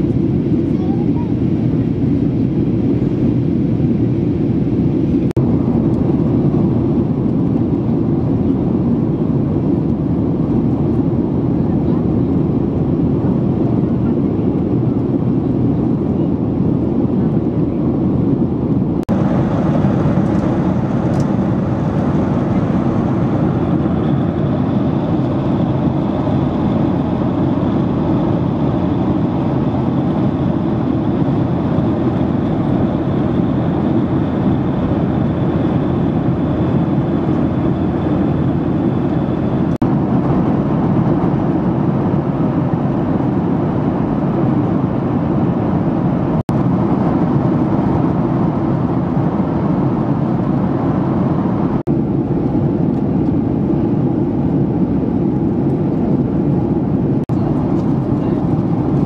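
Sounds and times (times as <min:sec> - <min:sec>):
airliner cabin engine roar: 0:00.0 - 0:59.0.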